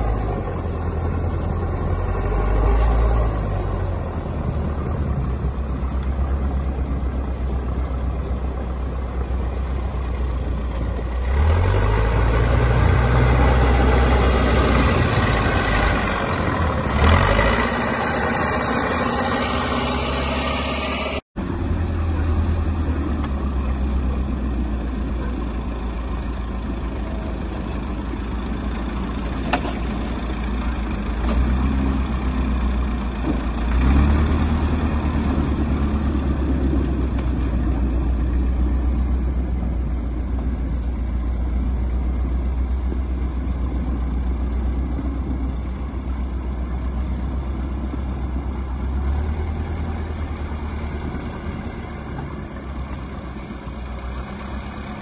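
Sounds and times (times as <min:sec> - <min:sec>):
diesel engine revving under load: 0:00.0 - 0:55.0.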